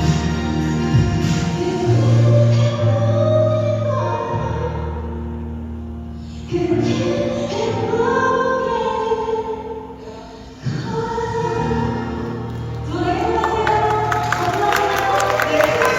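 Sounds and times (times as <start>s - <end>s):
woman singing a slow song: 0.9s - 5.6s, 6.2s - 15.9s.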